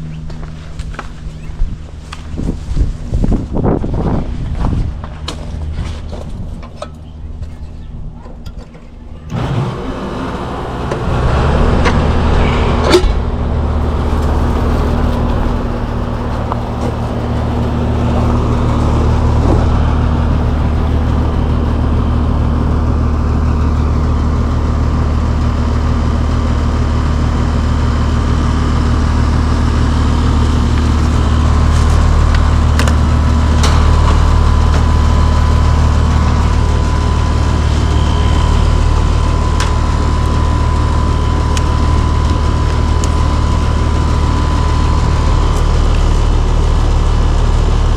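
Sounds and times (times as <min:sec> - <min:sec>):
air conditioner unit humming: 0:00.0 - 0:47.9.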